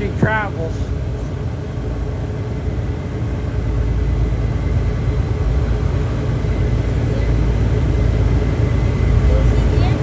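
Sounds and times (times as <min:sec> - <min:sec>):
ship engines rumbling: 0:00.0 - 0:10.0.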